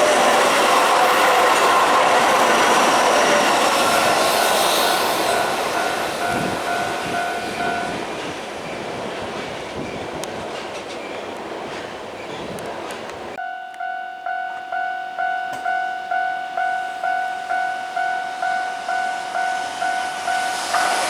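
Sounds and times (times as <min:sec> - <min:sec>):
two-tone crossing warning bell: 0:00.0 - 0:10.2, 0:13.4 - 0:21.0
train wheels clattering on rails: 0:00.0 - 0:13.3, 0:14.5 - 0:21.0.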